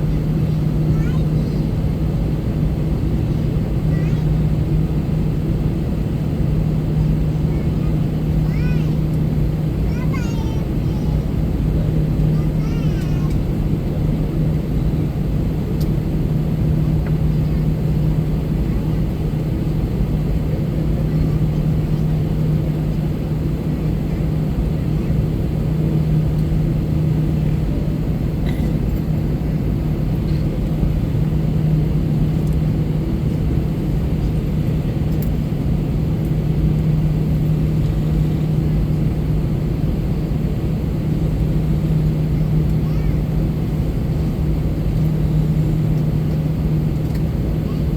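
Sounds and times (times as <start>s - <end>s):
jet engines droning in cabin: 0.0s - 47.9s.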